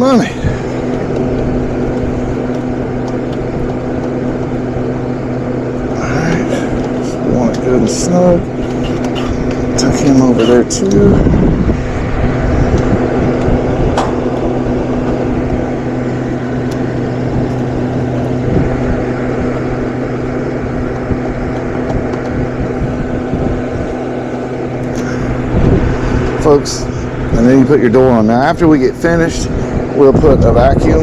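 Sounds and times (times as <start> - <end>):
low rumble: 0.0 - 31.0
machine hum: 0.0 - 31.0.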